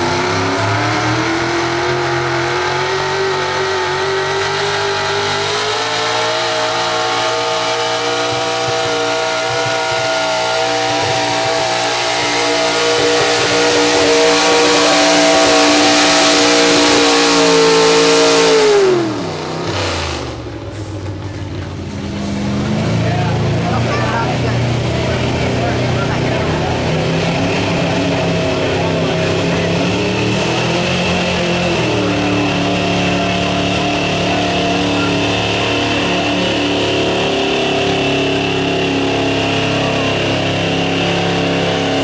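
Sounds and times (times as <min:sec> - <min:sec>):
pickup engine at full throttle: 0:00.0 - 0:42.0.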